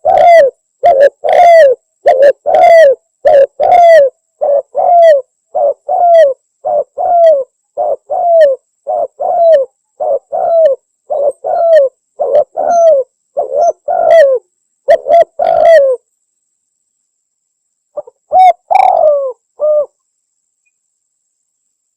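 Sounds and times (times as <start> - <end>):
dove cooing: 0.0 - 16.0, 18.0 - 20.0.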